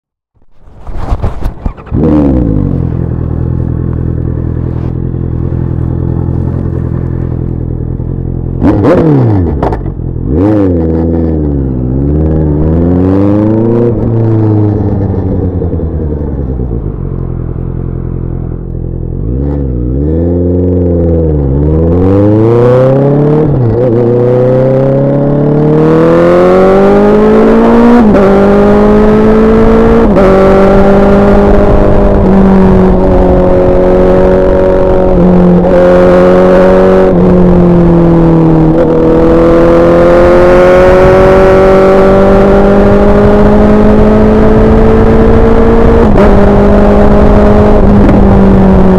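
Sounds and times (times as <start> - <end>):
motorcycle engine revving: 1.0 - 48.9.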